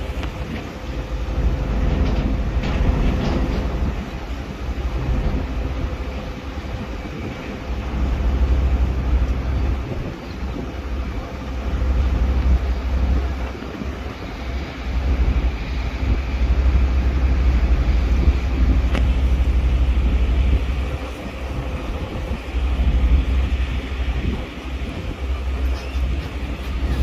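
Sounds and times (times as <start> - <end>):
ferry engine drone: 0.0 - 27.0
water: 0.0 - 27.0
wind buffeting microphone: 0.0 - 27.0.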